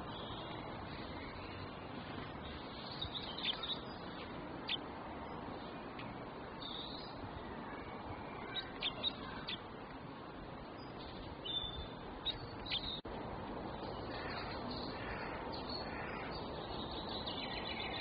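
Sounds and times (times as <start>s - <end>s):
songbird chirping: 0.0s - 18.0s
steady background hiss: 0.0s - 18.0s.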